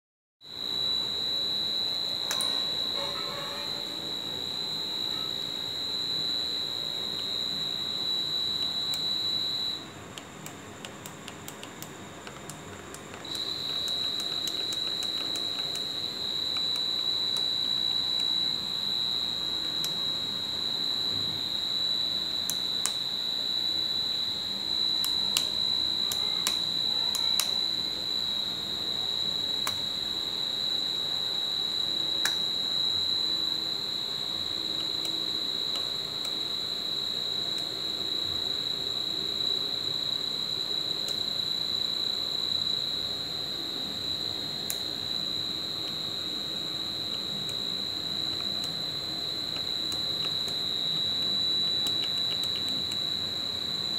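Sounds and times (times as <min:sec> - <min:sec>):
continuous high electronic beep: 0:00.4 - 0:53.9.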